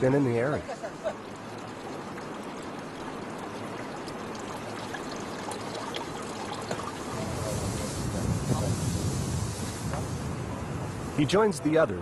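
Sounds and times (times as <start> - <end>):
water trickling: 0.0 - 11.5.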